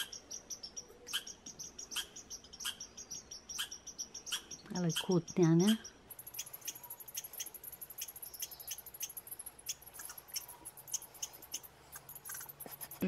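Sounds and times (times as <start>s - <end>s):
squirrels chattering: 0.0s - 13.0s.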